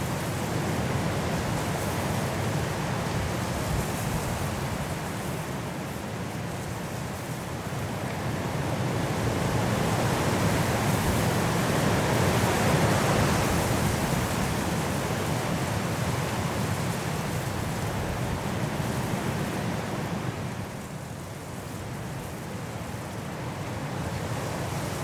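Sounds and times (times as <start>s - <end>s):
high wind through forest trees: 0.0s - 25.0s.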